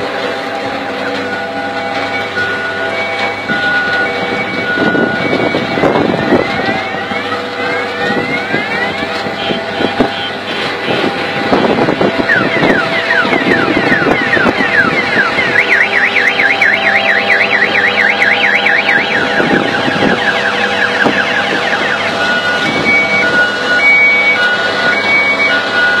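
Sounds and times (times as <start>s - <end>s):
electronic siren: 0.0s - 26.0s
farm machinery engines running: 0.0s - 26.0s.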